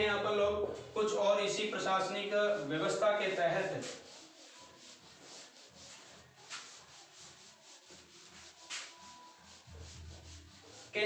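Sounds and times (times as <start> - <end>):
duster rubbing whiteboard: 1.5 - 11.0.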